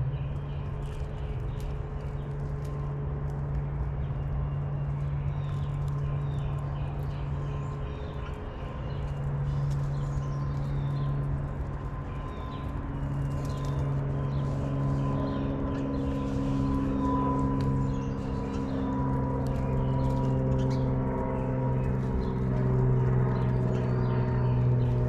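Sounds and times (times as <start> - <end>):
loud low hum: 0.0 - 25.0
small birds chirping: 0.0 - 25.0.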